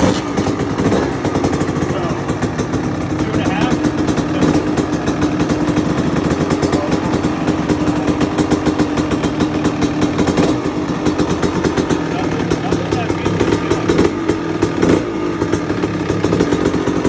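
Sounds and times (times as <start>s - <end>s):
motocross bike engine running: 0.0s - 17.0s.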